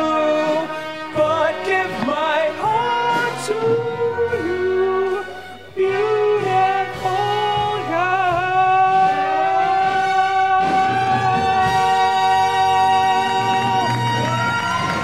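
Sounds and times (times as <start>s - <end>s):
pit band with brass: 0.0s - 15.0s.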